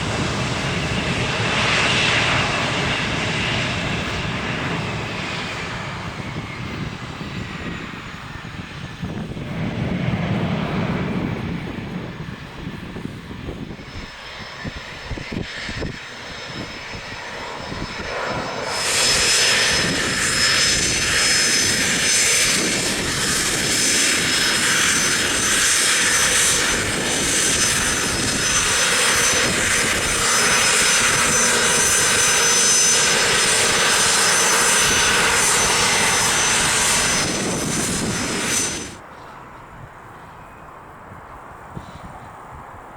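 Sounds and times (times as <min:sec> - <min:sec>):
jet engines roaring with whine: 0:00.0 - 0:42.9.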